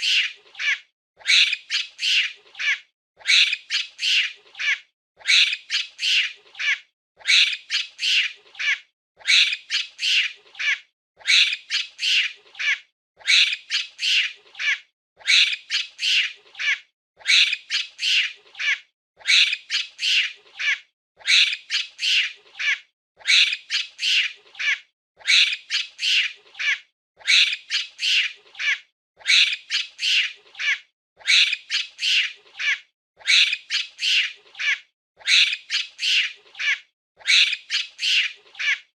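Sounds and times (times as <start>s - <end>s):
monkey squawking calls: 0.0s - 38.9s.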